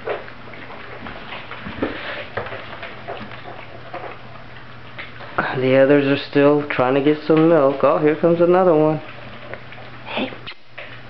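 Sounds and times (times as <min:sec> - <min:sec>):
low steady hum: 0:00.0 - 0:11.0
puppies suckling: 0:00.0 - 0:11.0.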